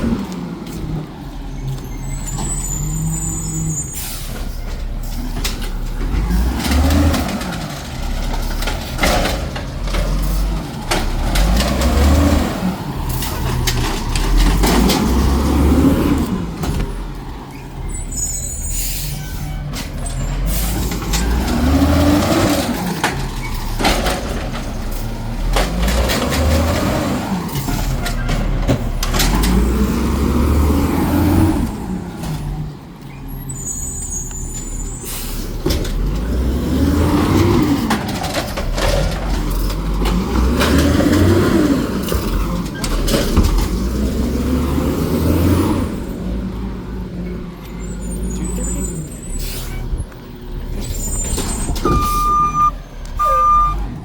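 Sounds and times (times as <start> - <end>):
garbage truck engine revving: 0.0 - 33.8, 35.0 - 54.0.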